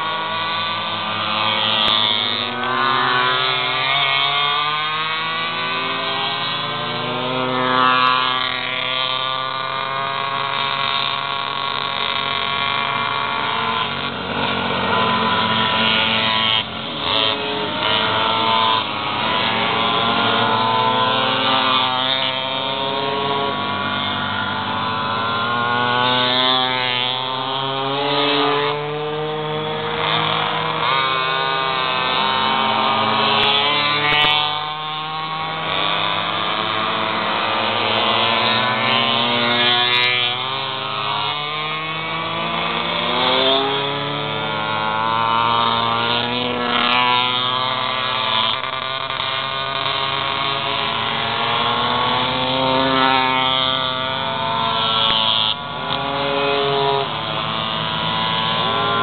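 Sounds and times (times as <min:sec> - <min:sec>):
bike passing close: 0:00.0 - 0:59.0
pocketbike engines racing: 0:00.0 - 0:59.0.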